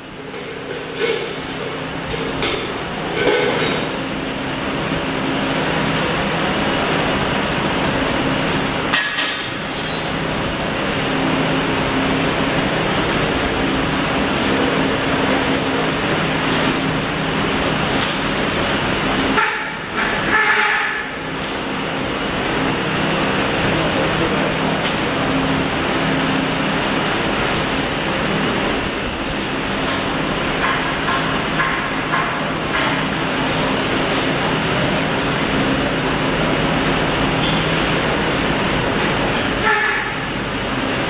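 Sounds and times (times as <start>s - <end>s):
arc welding hiss: 0.0s - 41.0s
low machine hum: 0.0s - 41.0s.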